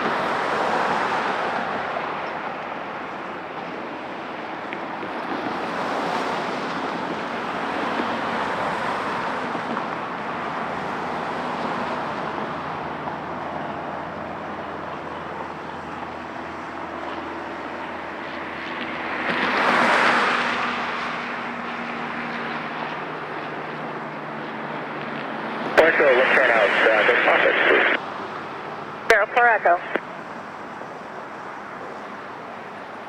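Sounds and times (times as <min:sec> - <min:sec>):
jet airliner landing: 0:00.0 - 0:33.0.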